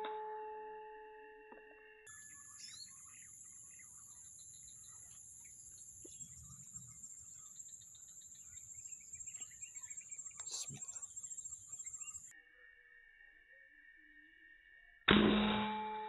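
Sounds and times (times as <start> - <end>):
faint bird chirps: 2.1 - 15.0.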